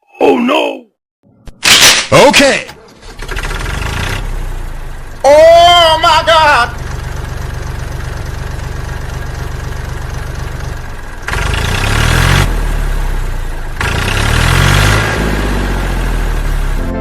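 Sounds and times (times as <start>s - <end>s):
engine idling and revving: 2.9s - 17.0s.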